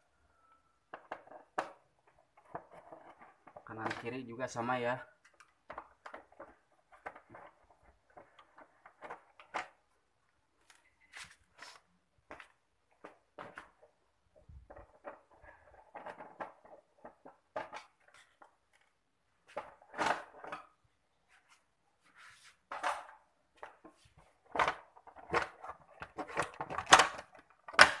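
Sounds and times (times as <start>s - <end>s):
plastic panels clicking and rattling: 0.8s - 10.0s, 12.3s - 20.8s, 22.7s - 28.0s.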